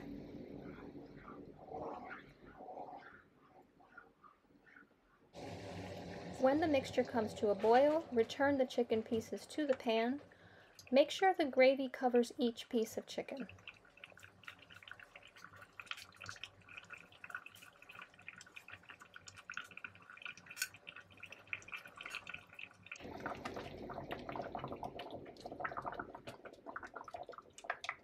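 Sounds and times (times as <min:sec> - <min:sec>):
gravy bubbling in a pan: 0:00.0 - 0:28.0.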